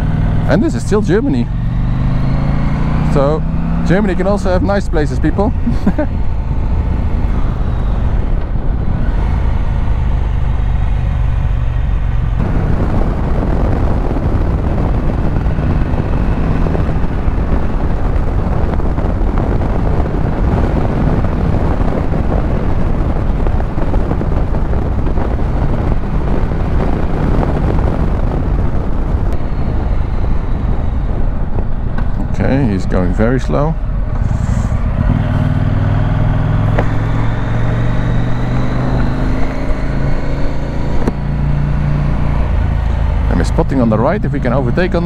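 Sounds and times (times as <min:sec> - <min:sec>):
motorcycle engine rumbling: 0:00.0 - 0:45.0
wind rush: 0:00.0 - 0:45.0.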